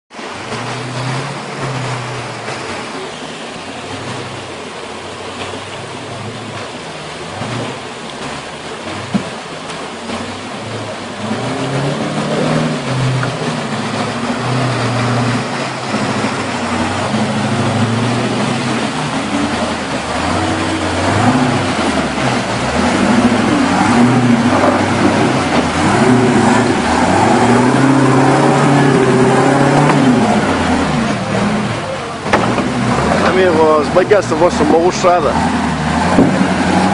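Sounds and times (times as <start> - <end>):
truck engine revving: 0.1 - 36.9.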